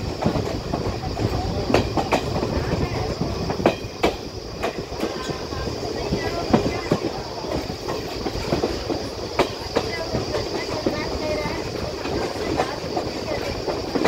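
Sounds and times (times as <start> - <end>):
constant high hiss: 0.0 - 14.0
train rumbling on track: 0.0 - 14.0
wheels clicking and knocking: 0.0 - 14.0.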